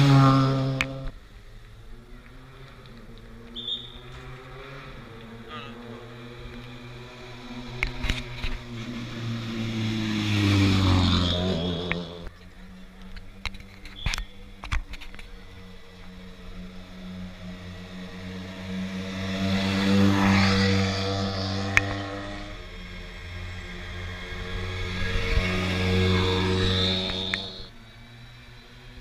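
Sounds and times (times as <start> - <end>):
low engine hum: 0.0 - 29.0
rally car passing by: 0.0 - 29.0
vehicle engine passing: 0.0 - 29.0.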